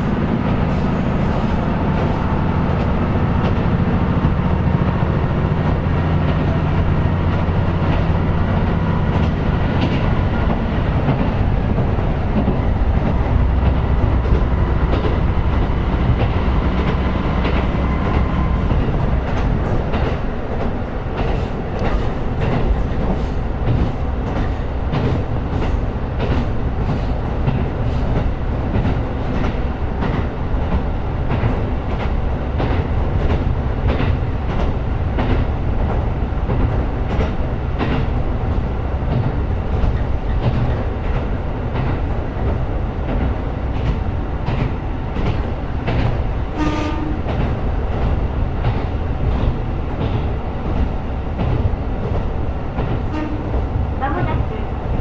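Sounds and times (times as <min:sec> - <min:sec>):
diesel railcar engine drone: 0:00.0 - 0:55.0
train wheel rumble: 0:00.0 - 0:55.0
wheels clicking over rail joints: 0:00.0 - 0:55.0.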